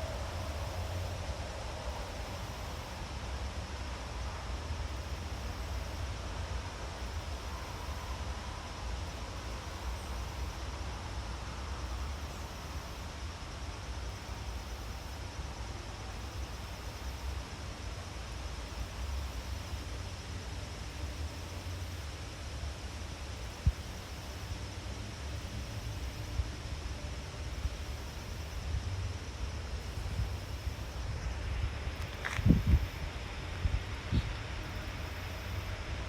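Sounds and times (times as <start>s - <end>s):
even hiss: 0.0s - 36.0s.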